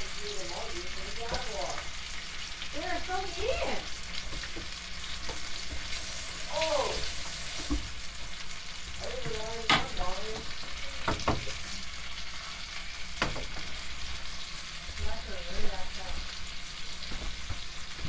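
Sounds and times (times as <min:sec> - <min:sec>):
steak sizzling in a frying pan: 0:00.0 - 0:18.0.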